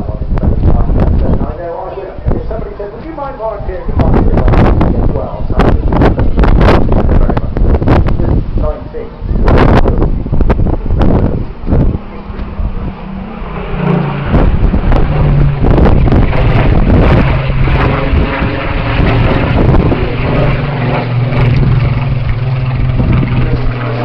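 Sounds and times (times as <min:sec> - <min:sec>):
propeller plane engine droning: 0:00.0 - 0:24.0
wind buffeting microphone: 0:00.0 - 0:24.0.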